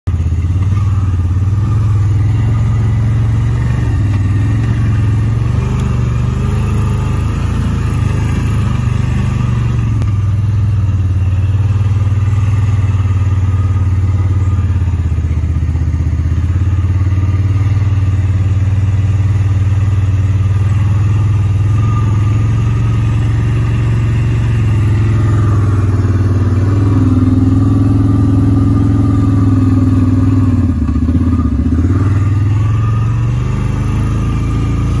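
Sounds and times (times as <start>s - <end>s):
small vehicle engine running: 0.1s - 35.0s.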